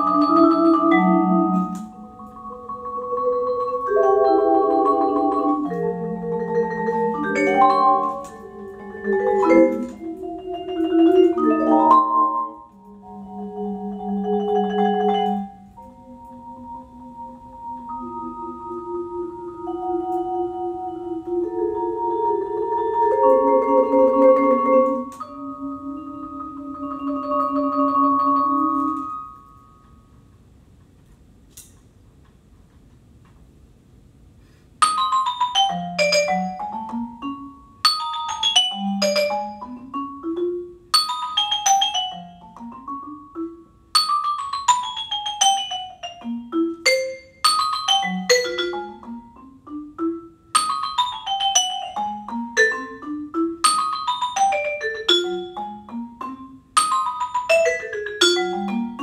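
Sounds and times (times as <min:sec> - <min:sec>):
vibraphone mallet flurries: 0:00.0 - 0:29.8, 0:34.8 - 0:59.0
vibraphone chords ringing: 0:00.0 - 0:30.2, 0:34.8 - 0:59.0.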